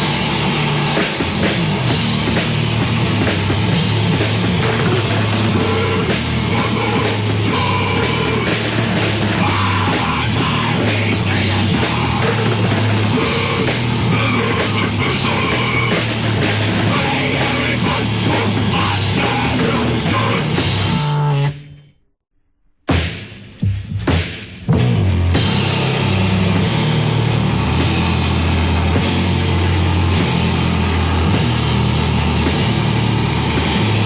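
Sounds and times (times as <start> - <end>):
rapid drum and cymbal hits: 0.0 - 21.3, 22.8 - 34.0
distorted electric guitars: 0.0 - 21.9, 22.8 - 34.0
bass guitar: 0.0 - 34.0.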